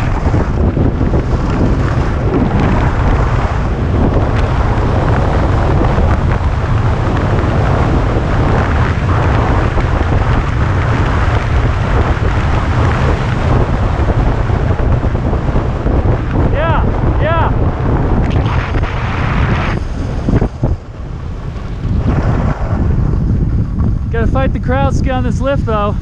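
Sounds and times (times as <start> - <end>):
skis scraping over snow: 0.0 - 26.0
wind buffeting microphone: 0.0 - 26.0.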